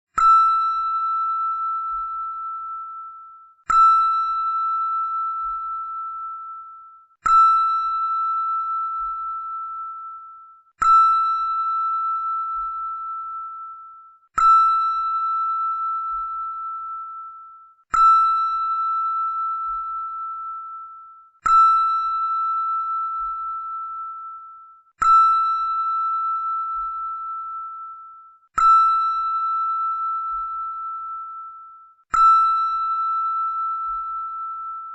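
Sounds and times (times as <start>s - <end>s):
bell struck ringing high tone: 0.2s - 34.9s.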